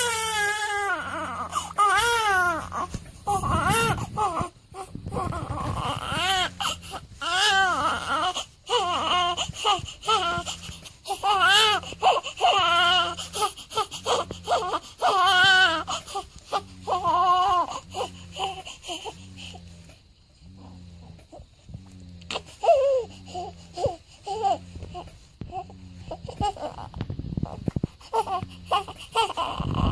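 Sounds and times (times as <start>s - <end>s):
newborn baby crying: 0.0s - 19.2s, 22.3s - 26.9s, 28.1s - 29.9s.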